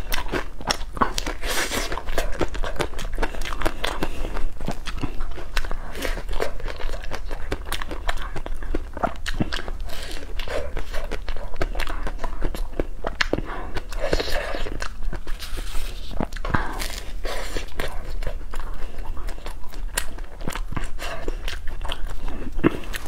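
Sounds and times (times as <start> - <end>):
crunching waffle cone: 0.0 - 23.0.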